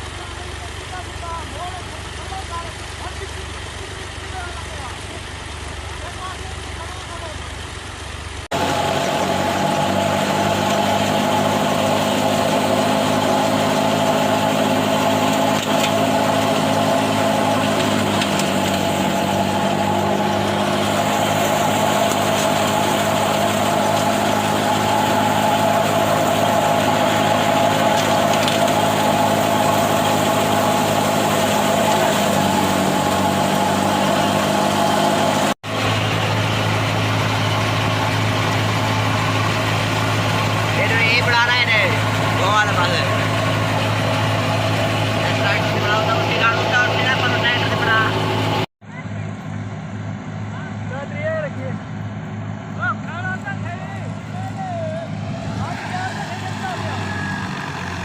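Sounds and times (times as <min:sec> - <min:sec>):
heavy farm machine engine running: 0:00.0 - 0:58.0.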